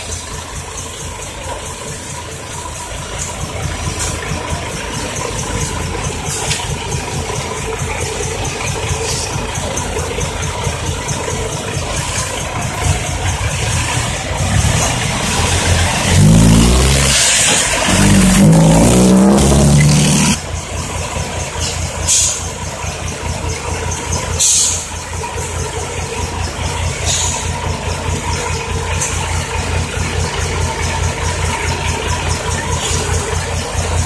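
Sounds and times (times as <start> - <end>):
diesel truck engine: 0.0 - 34.0.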